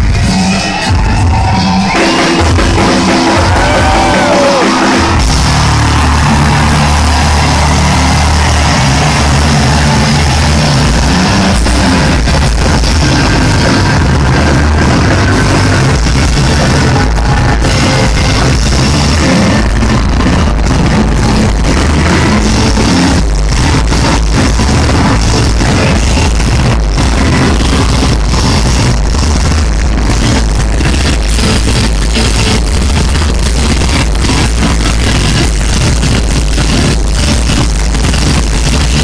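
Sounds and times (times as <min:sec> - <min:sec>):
heavy drums: 0:00.0 - 0:39.0
live rock band playing: 0:00.0 - 0:39.0.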